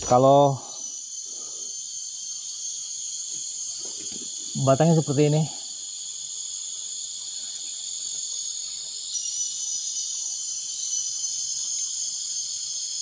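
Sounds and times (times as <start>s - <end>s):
insects trilling: 0.0s - 13.0s
louder insect trilling: 0.0s - 13.0s.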